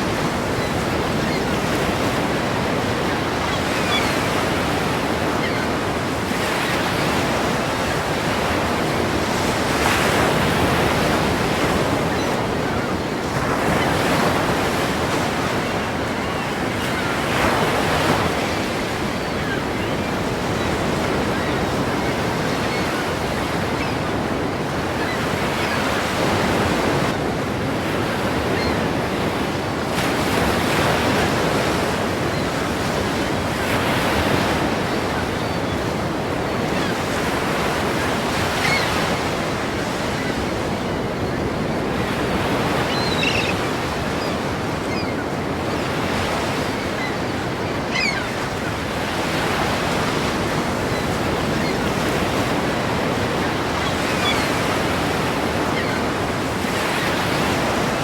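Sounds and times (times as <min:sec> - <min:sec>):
ocean waves crashing: 0:00.0 - 0:58.0.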